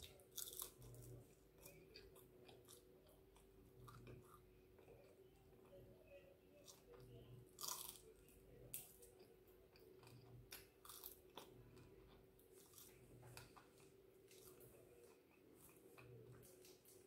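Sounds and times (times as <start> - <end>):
chewing with small crunches: 0.0 - 17.0.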